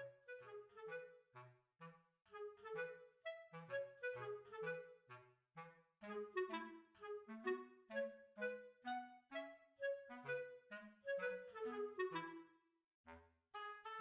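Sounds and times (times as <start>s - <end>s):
bouncy woodwind melody: 0.0s - 12.7s, 13.6s - 14.0s.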